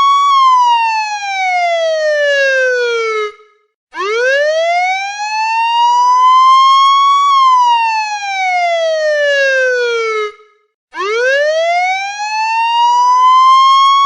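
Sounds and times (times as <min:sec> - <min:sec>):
police siren wail: 0:00.0 - 0:14.0.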